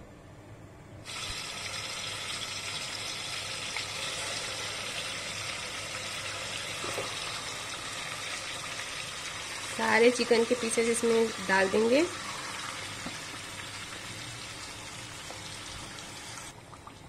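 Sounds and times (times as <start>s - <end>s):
chicken sizzling in hot oil: 1.1s - 16.5s.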